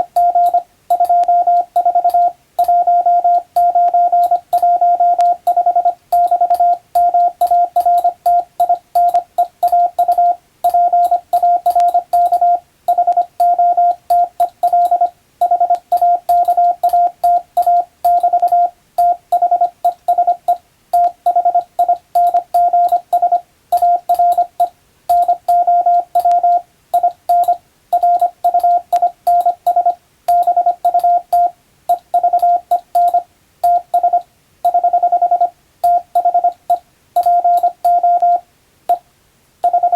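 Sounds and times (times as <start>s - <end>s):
morse code tone: 0.0s - 39.0s, 39.6s - 39.9s.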